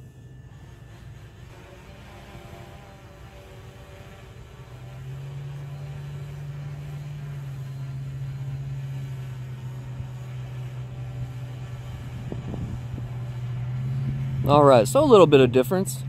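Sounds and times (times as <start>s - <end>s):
drone propeller hum: 0.0s - 16.0s.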